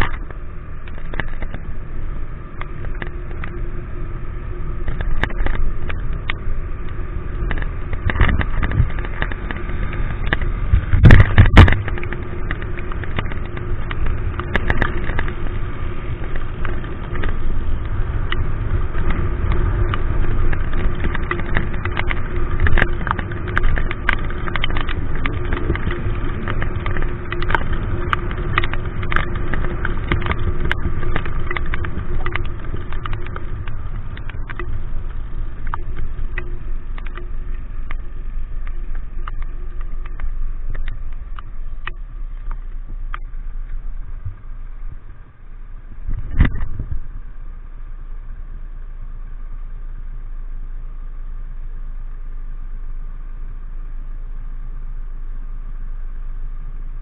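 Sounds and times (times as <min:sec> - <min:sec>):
small ticks on camera: 0:00.0 - 0:01.9, 0:02.5 - 0:03.8, 0:04.6 - 0:57.0
wind noise: 0:00.0 - 0:48.0
motorcycle engine running: 0:00.0 - 0:57.0
rain: 0:00.0 - 0:57.0.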